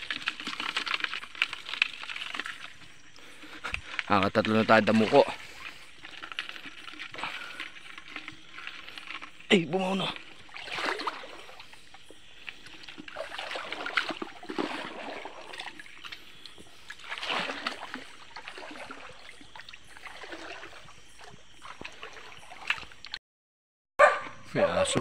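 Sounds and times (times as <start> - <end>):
shallow water splashing: 0.0 - 23.2.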